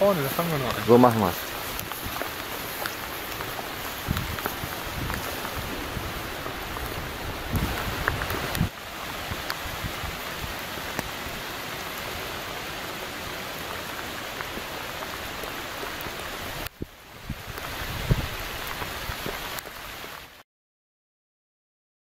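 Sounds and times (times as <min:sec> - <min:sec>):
heavy rain on water: 0:00.0 - 0:20.4.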